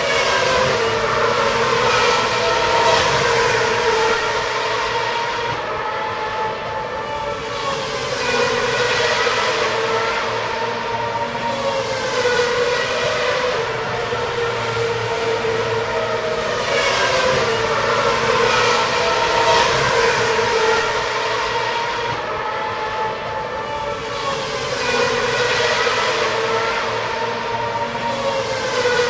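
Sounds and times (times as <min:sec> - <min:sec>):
racing car engines whining: 0:00.0 - 0:29.0.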